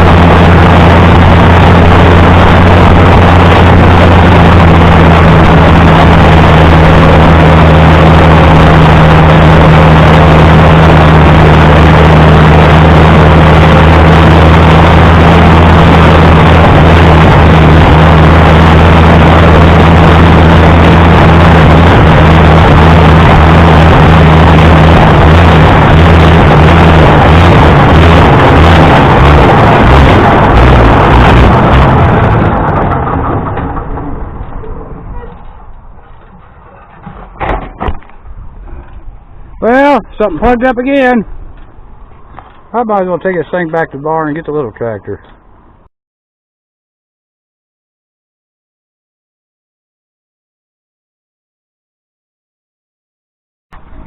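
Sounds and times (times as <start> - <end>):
tractor engine running: 0.0 - 45.9, 53.7 - 54.0.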